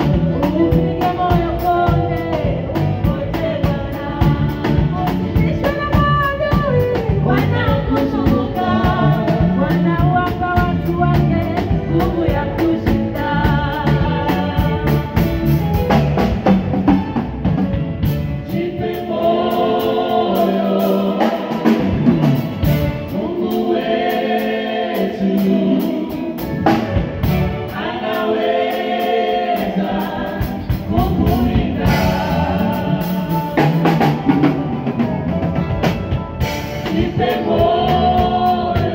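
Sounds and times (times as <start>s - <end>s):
voices singing together: 0.0s - 16.6s, 18.4s - 38.9s
bass guitar: 0.0s - 38.9s
drum kit and cymbals: 0.0s - 38.9s
electric keyboard: 0.0s - 38.9s.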